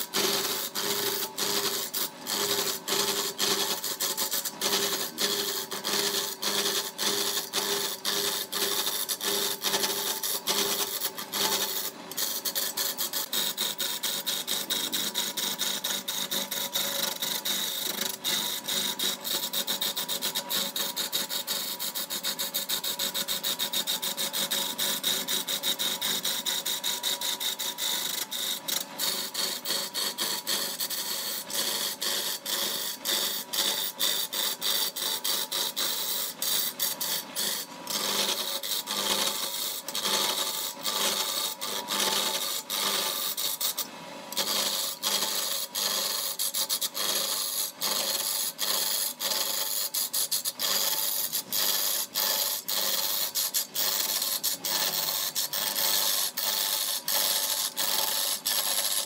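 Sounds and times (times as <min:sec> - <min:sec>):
wood lathe cutting log: 0:00.0 - 0:59.0.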